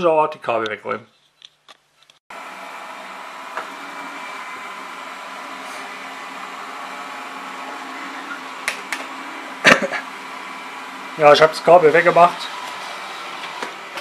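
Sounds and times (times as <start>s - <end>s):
robot vacuum whirring: 2.3s - 14.0s.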